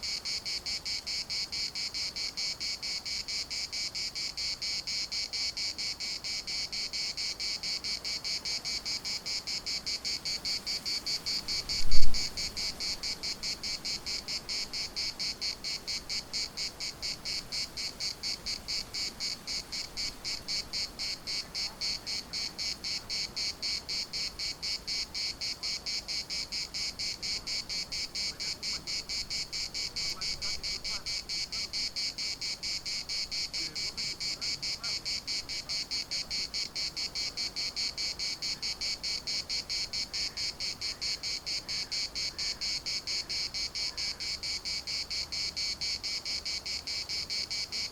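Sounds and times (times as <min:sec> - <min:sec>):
cicadas buzzing in chorus: 0:00.0 - 0:47.9.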